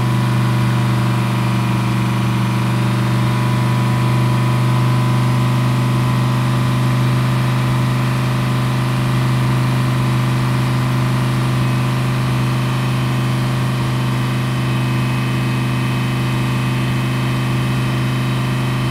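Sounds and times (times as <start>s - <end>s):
race car engine idling: 0.0s - 18.9s.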